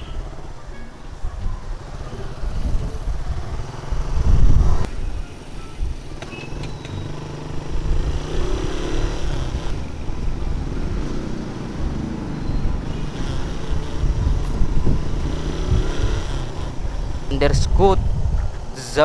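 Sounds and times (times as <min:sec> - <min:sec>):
wind and road noise: 0:00.0 - 0:19.0
motorcycle engine running: 0:01.6 - 0:18.6.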